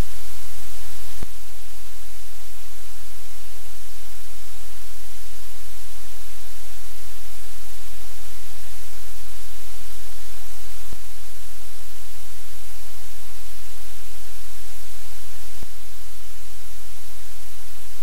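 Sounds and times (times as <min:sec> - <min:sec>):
electrical hum and static hiss: 0:00.0 - 0:18.0.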